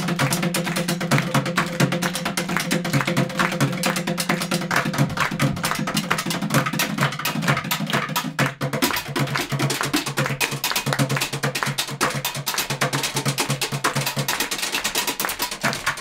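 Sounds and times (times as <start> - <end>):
drumming on buckets and canisters: 0.0 - 16.0.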